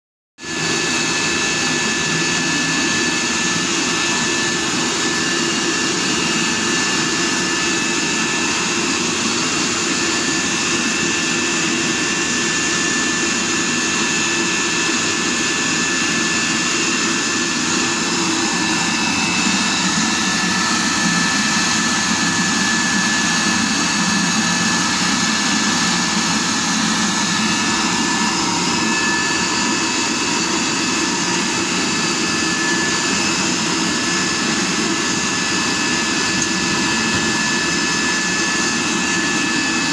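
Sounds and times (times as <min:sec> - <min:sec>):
furnace blower rushing: 0:00.4 - 0:39.9
thin steady whine: 0:00.5 - 0:39.9.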